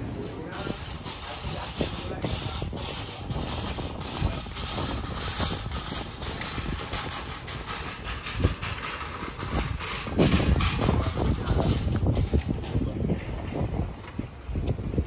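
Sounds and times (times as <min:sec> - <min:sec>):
city noise: 0:00.0 - 0:15.0
passing traffic rumble: 0:00.0 - 0:15.0.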